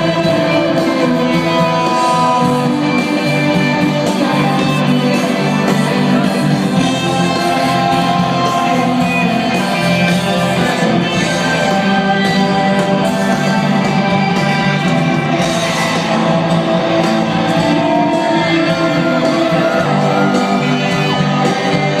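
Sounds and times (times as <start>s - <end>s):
crowd shouting: 0.0s - 22.0s
live rock band playing: 0.0s - 22.0s.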